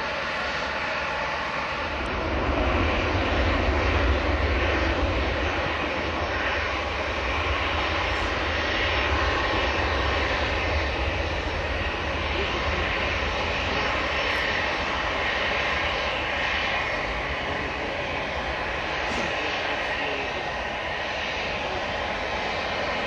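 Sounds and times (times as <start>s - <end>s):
jet engines whining and rumbling: 0.0s - 23.0s.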